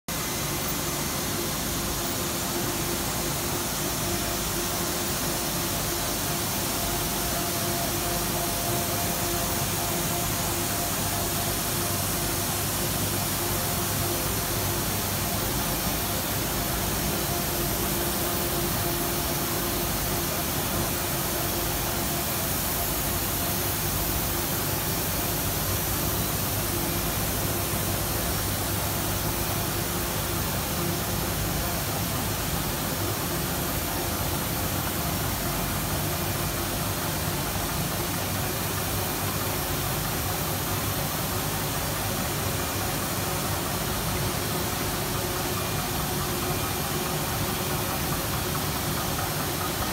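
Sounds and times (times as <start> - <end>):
printing press hissing: 0.1 - 49.9.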